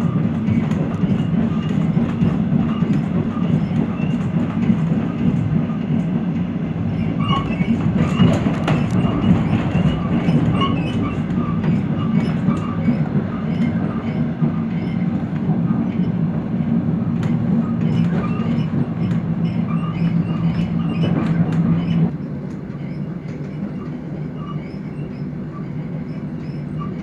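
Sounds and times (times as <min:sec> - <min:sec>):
diesel train engine drone: 0:00.0 - 0:27.0
train wheels running noise: 0:00.0 - 0:27.0.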